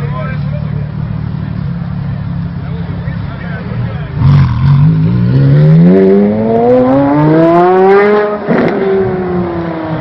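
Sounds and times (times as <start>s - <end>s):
sports car engine accelerating: 0.7s - 10.0s.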